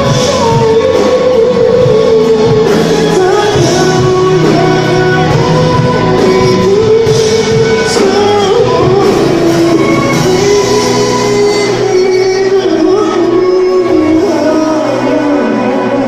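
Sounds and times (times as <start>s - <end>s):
man singing a pop ballad: 0.0s - 16.0s.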